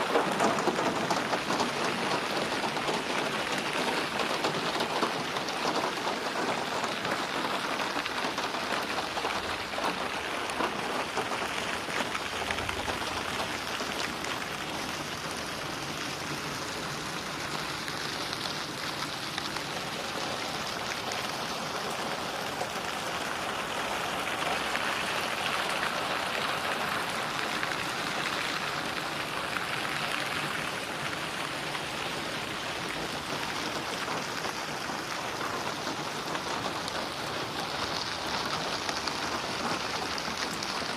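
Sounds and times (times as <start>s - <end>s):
rain splashing on a surface: 0.0s - 40.9s.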